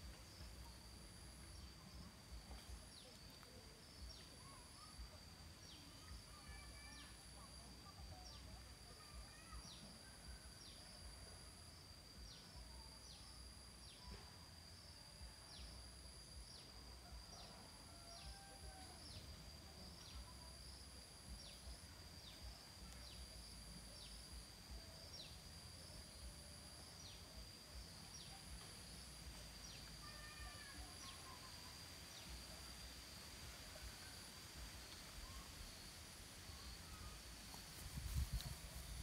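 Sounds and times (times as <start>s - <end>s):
insect higher trill: 0.0s - 39.0s
insects high-pitched drone: 0.0s - 39.0s.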